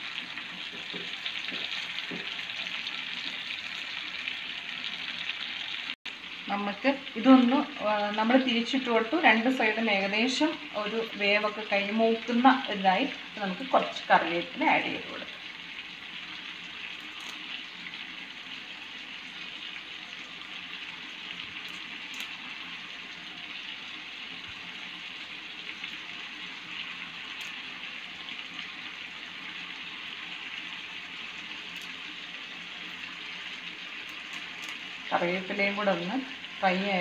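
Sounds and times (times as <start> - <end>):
chicken sizzling in a pan: 0.0 - 37.0.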